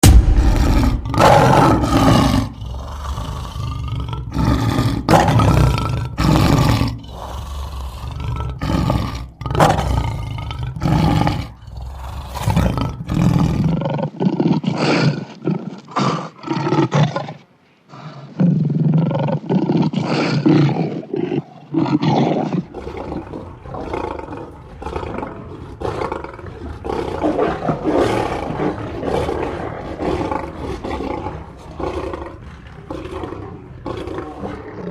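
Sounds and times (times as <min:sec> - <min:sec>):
lions roaring: 0:00.0 - 0:34.9.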